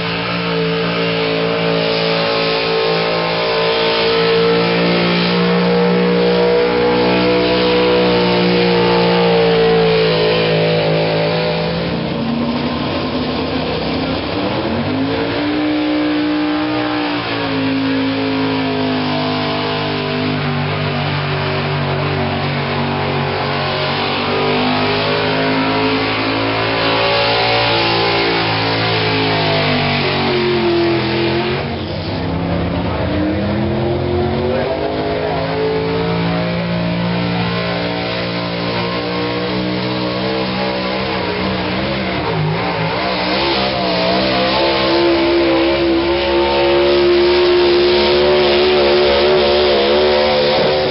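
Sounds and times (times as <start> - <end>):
truck engine at high revs: 0.0 - 50.9.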